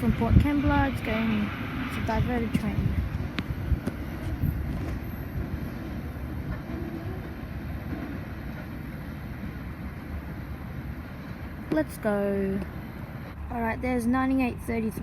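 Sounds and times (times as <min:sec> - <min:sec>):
freight train wagons rumbling: 0:00.0 - 0:15.0.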